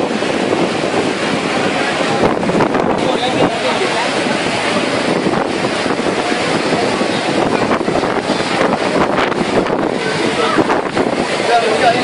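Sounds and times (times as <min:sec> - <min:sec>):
heavy rain: 0:00.0 - 0:12.0
storm wind: 0:00.0 - 0:12.0
wind buffeting microphone: 0:00.0 - 0:12.0.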